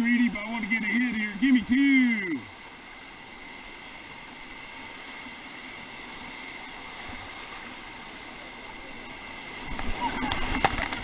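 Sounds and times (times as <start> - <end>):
river whitewater rushing: 0.0 - 11.0.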